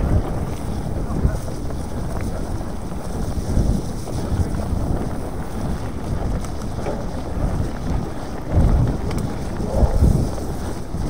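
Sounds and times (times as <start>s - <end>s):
bike rolling on trail: 0.0s - 11.0s
wind buffeting microphone: 0.0s - 11.0s.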